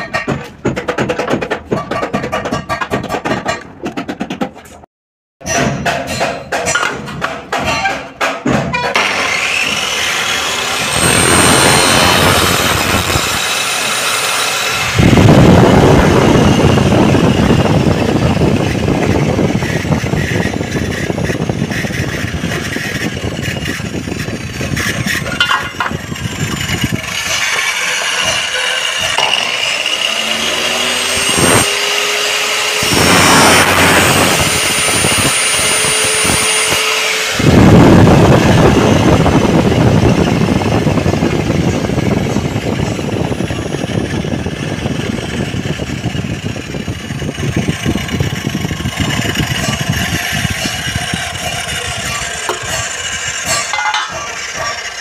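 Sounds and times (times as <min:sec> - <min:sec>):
saw cutting through metal: 0:05.4 - 0:55.0
rising whine: 0:09.0 - 0:54.8
mitre saw motor running: 0:09.0 - 0:55.0.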